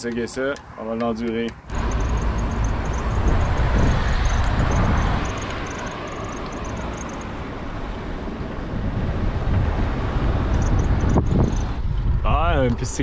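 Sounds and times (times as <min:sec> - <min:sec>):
motor traffic passing: 0:00.3 - 0:12.2
wind on microphone: 0:01.7 - 0:13.0.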